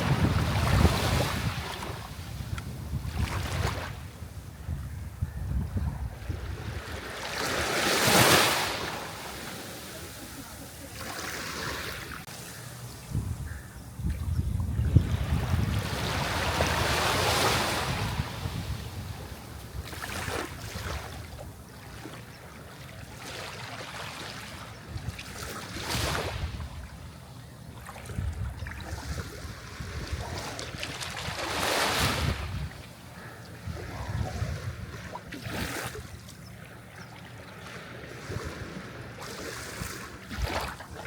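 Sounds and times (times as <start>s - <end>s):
sea waves breaking on shore: 0.0s - 4.2s, 6.2s - 12.9s, 15.0s - 27.1s, 27.8s - 41.0s.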